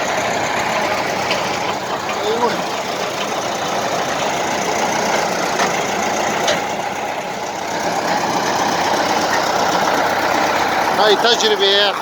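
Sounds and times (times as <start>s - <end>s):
digging machine engine running: 0.0s - 12.0s.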